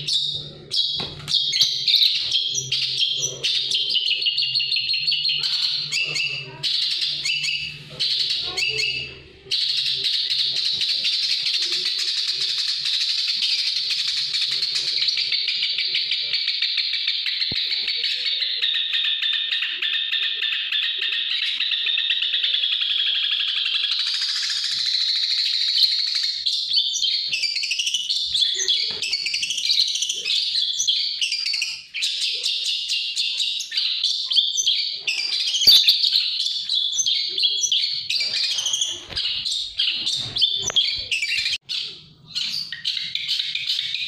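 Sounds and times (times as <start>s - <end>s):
bird chattering song: 0.0s - 44.0s.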